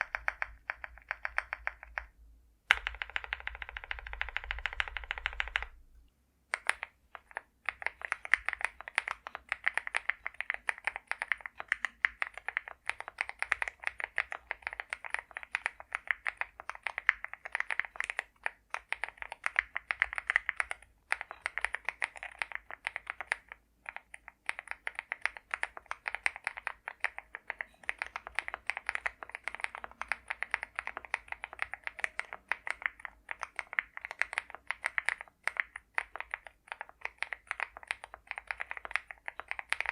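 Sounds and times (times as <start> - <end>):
fast mechanical keyboard typing: 0.0 - 2.1, 2.7 - 5.8, 6.6 - 39.9.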